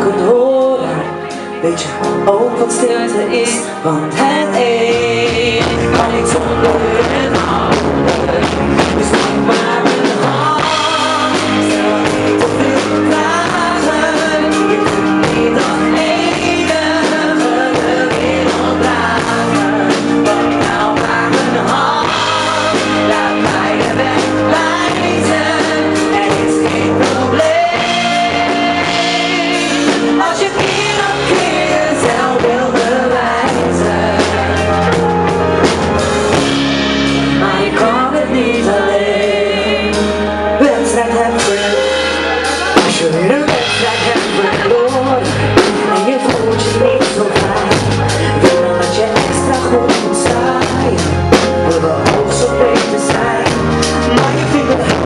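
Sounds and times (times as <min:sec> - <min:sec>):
person singing: 0:00.0 - 0:36.6, 0:37.2 - 0:55.0
live band playing: 0:00.0 - 0:55.0.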